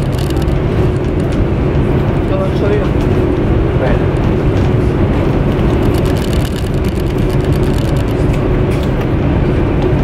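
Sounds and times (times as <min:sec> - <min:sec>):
train rumble and hum: 0:00.0 - 0:10.0.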